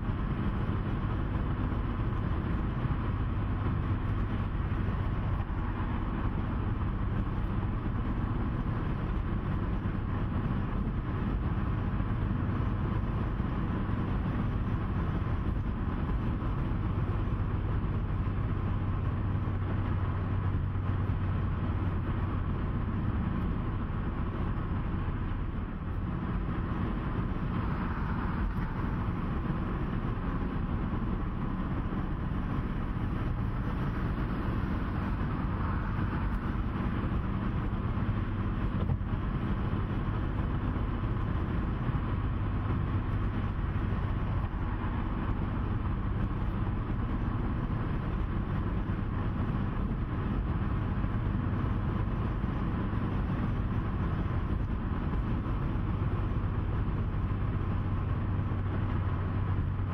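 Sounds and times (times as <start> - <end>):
vehicle engine and tyre noise: 0.0 - 59.9.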